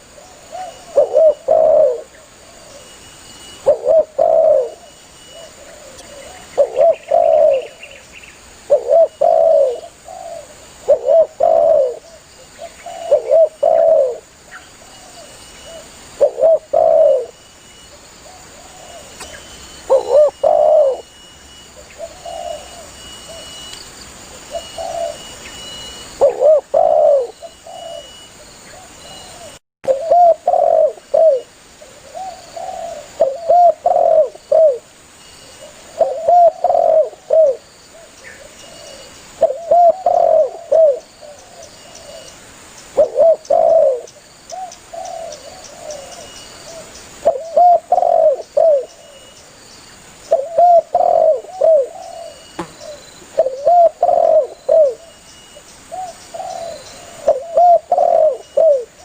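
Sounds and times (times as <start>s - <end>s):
doves cooing: 0.0s - 3.0s, 3.6s - 8.0s, 8.7s - 17.4s, 18.2s - 23.6s, 24.3s - 34.9s, 35.5s - 42.3s, 43.0s - 49.2s, 50.3s - 55.2s, 55.9s - 59.0s.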